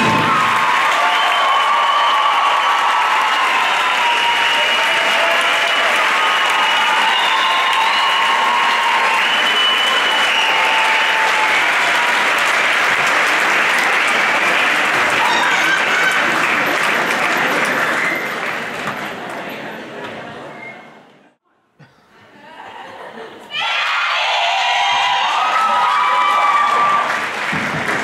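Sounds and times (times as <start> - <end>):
audience applauding: 0.0 - 19.4, 24.6 - 28.0.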